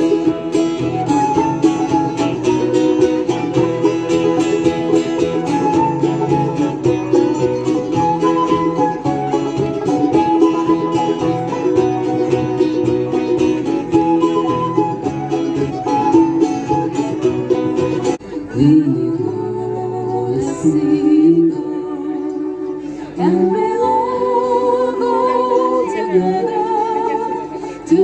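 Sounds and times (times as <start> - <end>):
plucked-string melody: 0.0 - 28.0.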